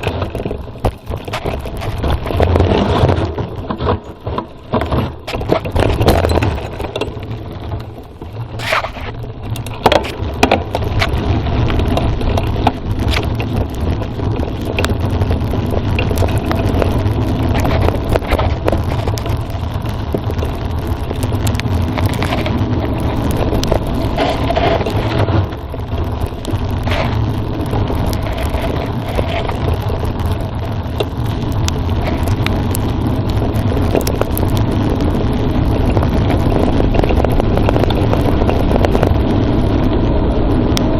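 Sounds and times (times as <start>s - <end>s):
tyres crunching over dirt: 0.0s - 39.5s
bike knocking and rattling: 0.0s - 40.9s
wind rumble on microphone: 0.0s - 40.9s.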